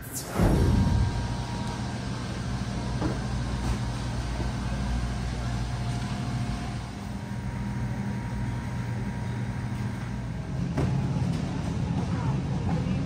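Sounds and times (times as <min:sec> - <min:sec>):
refrigeration machinery hum: 0:00.0 - 0:13.0.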